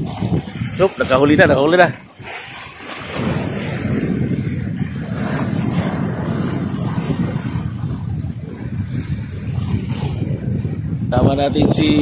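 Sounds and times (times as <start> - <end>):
sea waves washing against rocks: 0.0 - 12.0
wind buffeting microphone: 0.0 - 12.0.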